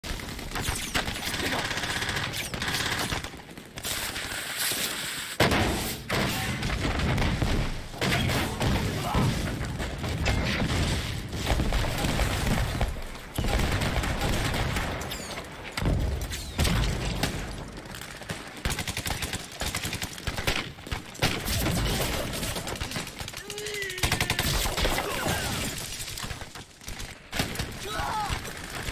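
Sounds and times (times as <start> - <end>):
rifle and machine-gun fire: 0.0 - 4.8, 5.4 - 28.9.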